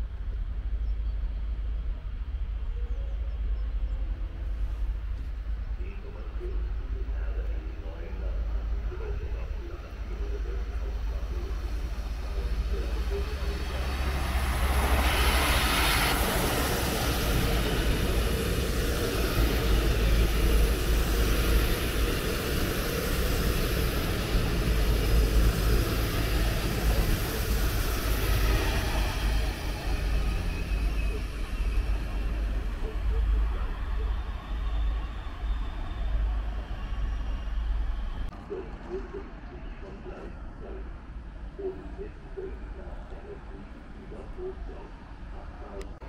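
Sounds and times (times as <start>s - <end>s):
train rumbling along tracks: 0.0s - 46.0s.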